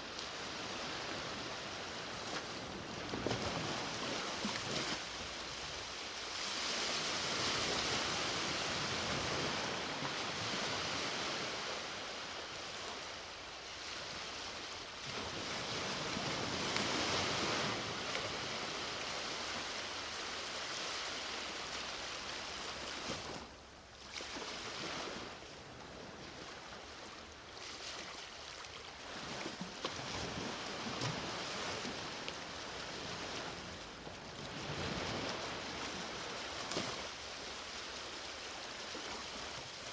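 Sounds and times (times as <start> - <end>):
sea waves washing onto beach: 0.0 - 23.6, 24.2 - 39.9.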